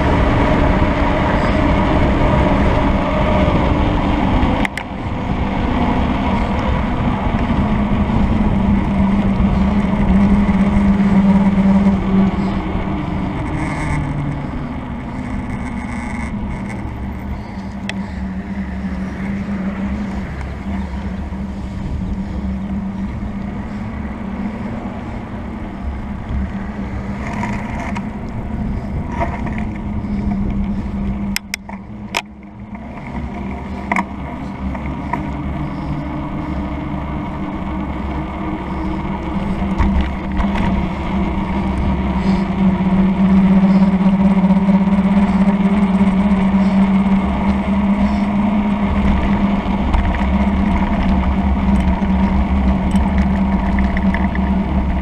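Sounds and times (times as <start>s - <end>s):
bike tyre noise: 0.0s - 55.0s
steady low hum: 0.0s - 55.0s
wind rushing over microphone: 0.0s - 55.0s.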